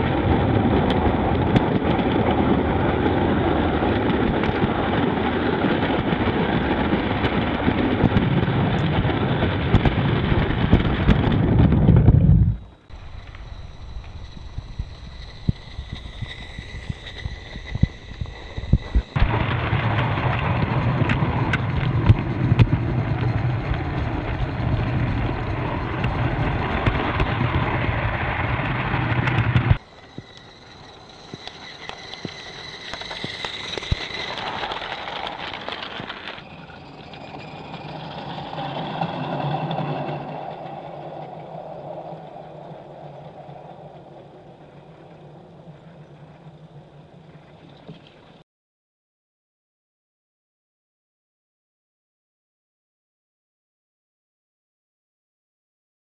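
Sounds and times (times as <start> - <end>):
train running quietly: 0.0 - 11.8, 12.5 - 48.4
small train wheels clattering on track: 0.0 - 48.0.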